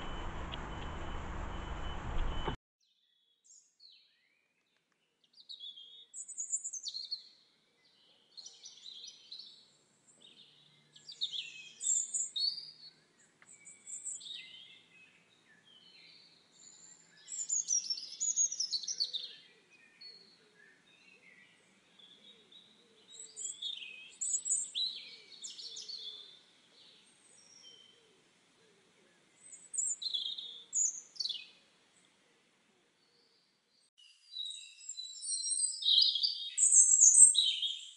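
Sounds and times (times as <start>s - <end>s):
songbirds chirping and trilling: 0.0s - 37.9s.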